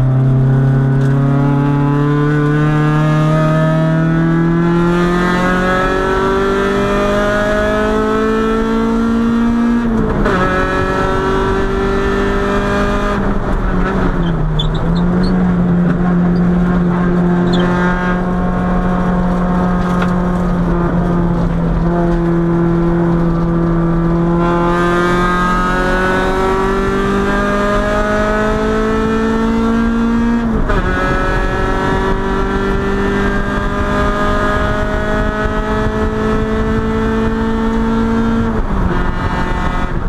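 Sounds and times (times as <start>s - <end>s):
car engine revving high: 0.0s - 40.0s
road and wind noise: 0.0s - 40.0s.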